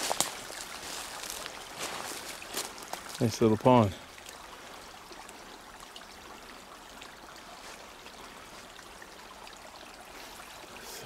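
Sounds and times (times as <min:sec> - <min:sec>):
brook trickling: 0:00.0 - 0:11.0.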